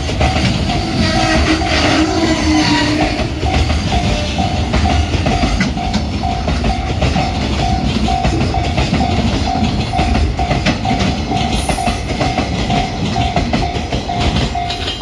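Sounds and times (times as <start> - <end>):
level crossing warning bell: 0.0 - 15.0
low train rumble: 0.0 - 15.0
train wheels clattering over joints: 0.0 - 15.0.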